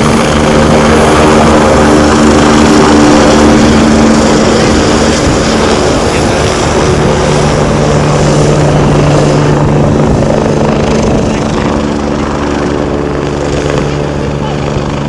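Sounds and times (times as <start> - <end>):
helicopter flying past: 0.0 - 15.0.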